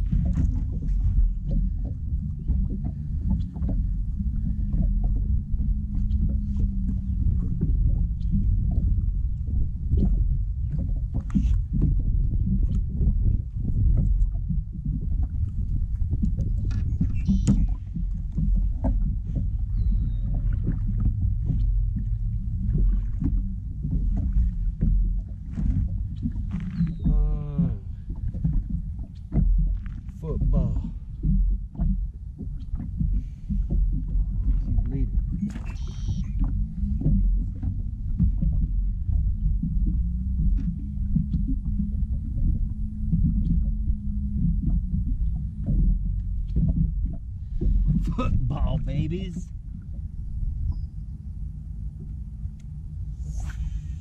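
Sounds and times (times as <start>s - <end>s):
boat low rumble: 0.0s - 54.0s.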